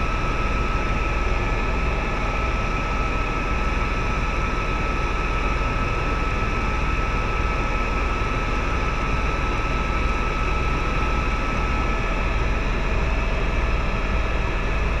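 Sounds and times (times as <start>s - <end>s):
helicopter rotor and engine drone: 0.0s - 15.0s.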